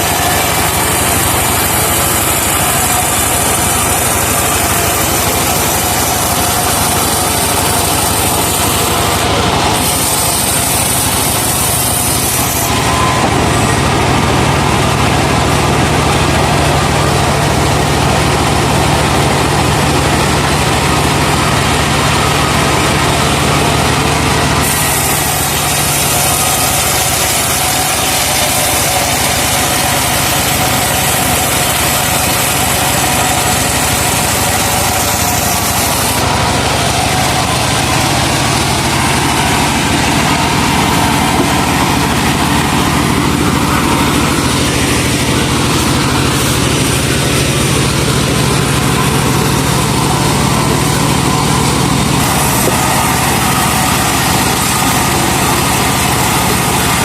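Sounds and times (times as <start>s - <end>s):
saw hissing through log: 0.0s - 13.8s, 22.0s - 57.0s
sawmill engine running: 0.0s - 57.0s.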